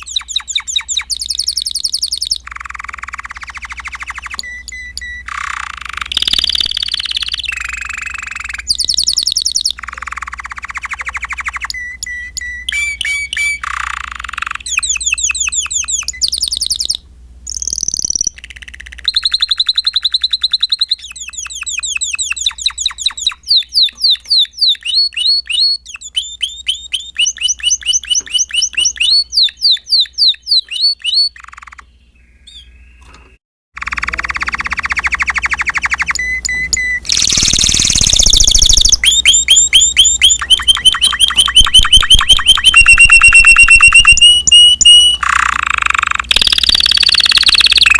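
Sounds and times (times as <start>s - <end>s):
canary singing trills: 0.0s - 47.9s.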